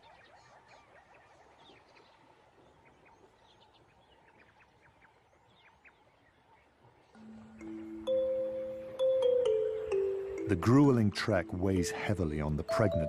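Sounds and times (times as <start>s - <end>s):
faint bird chirping: 0.0s - 13.0s
low outdoor hiss: 0.0s - 13.0s.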